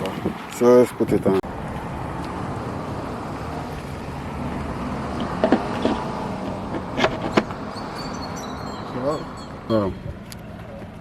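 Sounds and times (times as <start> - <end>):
vehicle rumble and hiss: 0.0 - 11.0.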